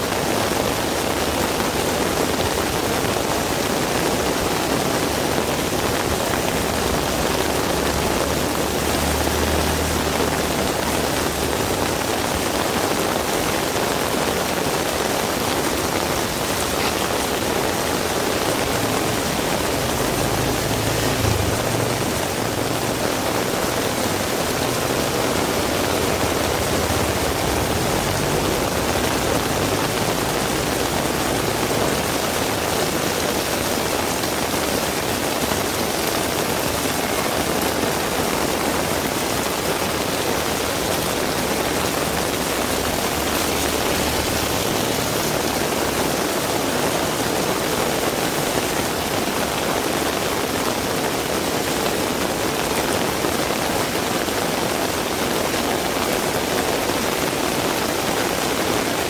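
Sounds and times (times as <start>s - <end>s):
heavy rain: 0.0s - 59.0s
passing traffic engine rumble: 0.3s - 50.2s.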